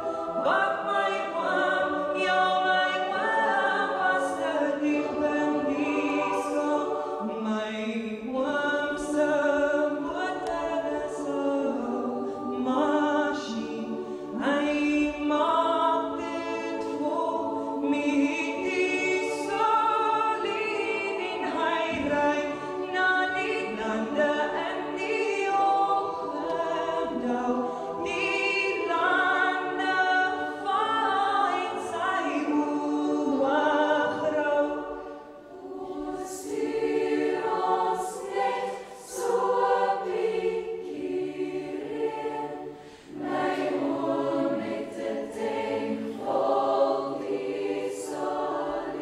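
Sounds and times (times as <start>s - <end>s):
choir singing in harmony: 0.0s - 49.0s.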